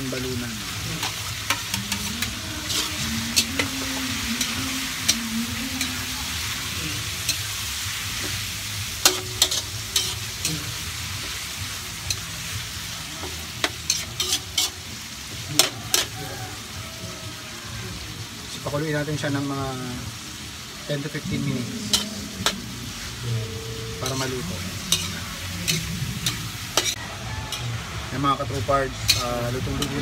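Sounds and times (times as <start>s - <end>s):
metal spatula scraping wok: 0.0s - 7.6s, 8.2s - 16.7s, 21.2s - 30.0s
meat sizzling in hot oil: 0.0s - 30.0s.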